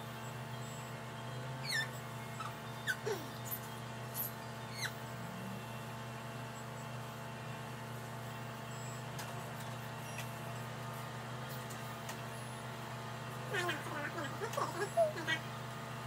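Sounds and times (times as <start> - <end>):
electrical equipment humming: 0.0 - 16.0.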